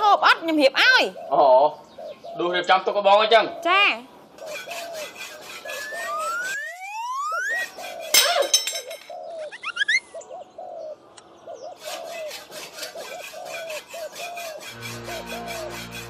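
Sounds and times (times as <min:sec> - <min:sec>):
birds chirping: 0:00.0 - 0:15.7
dove cooing: 0:00.8 - 0:02.7, 0:03.4 - 0:14.6.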